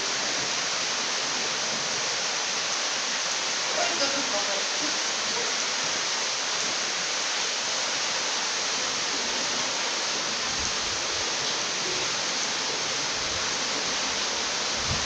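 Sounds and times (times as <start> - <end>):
waterfall pouring into a pool: 0.0 - 15.0.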